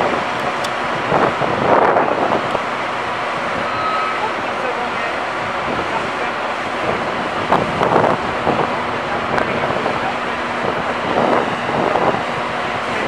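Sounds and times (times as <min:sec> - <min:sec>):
wind noise on microphone: 0:00.0 - 0:04.2, 0:05.3 - 0:13.0
machinery rumble: 0:00.0 - 0:13.0.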